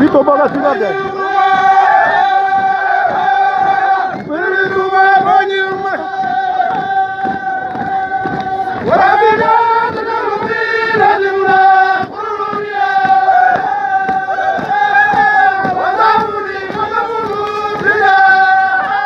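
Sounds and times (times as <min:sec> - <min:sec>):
group chanting in unison: 0:00.0 - 0:19.0
rapid drum beat: 0:00.0 - 0:19.0.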